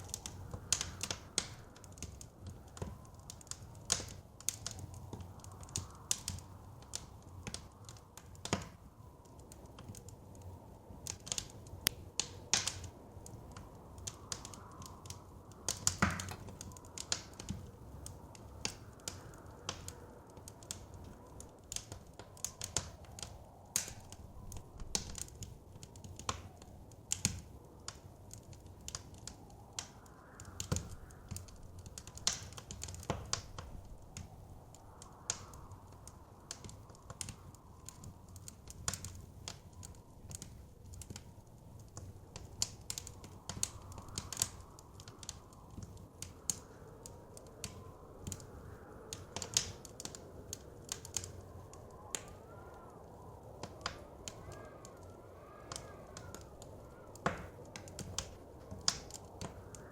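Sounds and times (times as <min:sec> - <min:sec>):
whistling wind: 0:00.0 - 0:59.9
wood fire crackling: 0:00.0 - 0:59.9.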